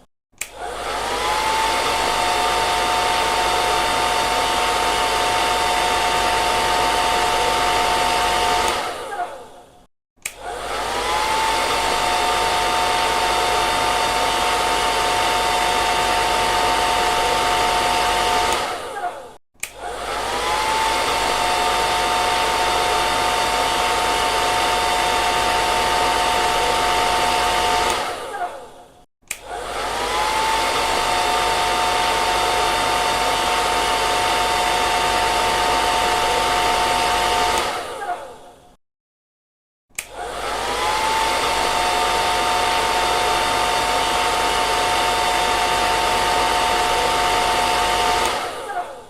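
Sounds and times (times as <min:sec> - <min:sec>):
hair dryer blowing: 0:00.0 - 0:09.6, 0:10.2 - 0:38.7, 0:40.0 - 0:49.0.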